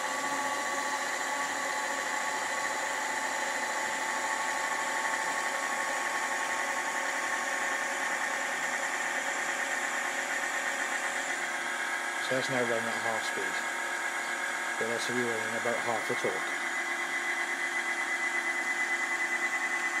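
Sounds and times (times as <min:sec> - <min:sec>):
electric motor running steadily: 0:00.0 - 0:20.0.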